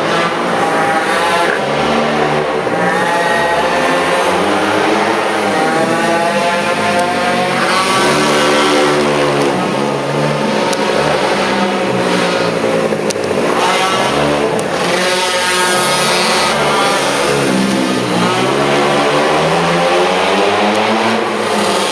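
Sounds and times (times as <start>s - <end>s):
small two-stroke engine revving: 0.0s - 21.9s.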